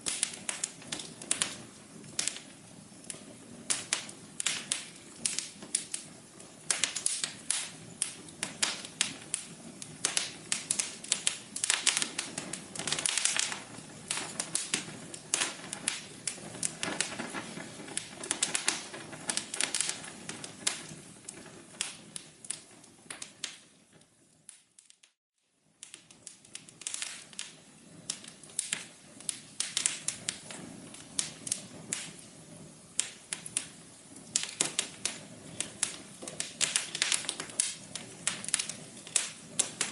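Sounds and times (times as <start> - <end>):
low hiss: 0.0 - 39.9
wood fire crackling: 0.0 - 39.9.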